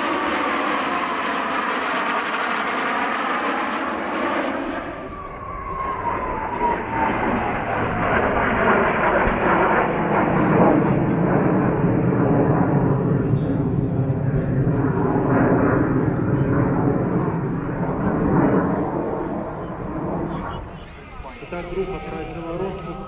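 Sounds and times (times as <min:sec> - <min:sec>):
jet engine noise: 0:00.0 - 0:23.0
jet engine whine passing: 0:00.0 - 0:23.0.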